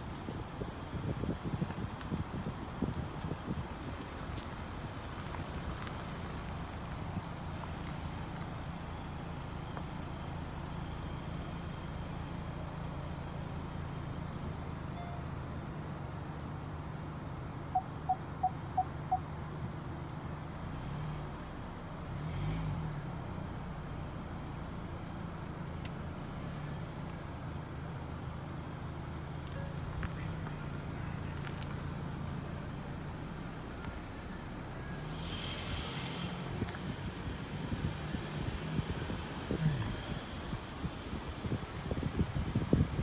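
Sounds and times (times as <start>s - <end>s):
insects chirring: 0.1s - 43.0s.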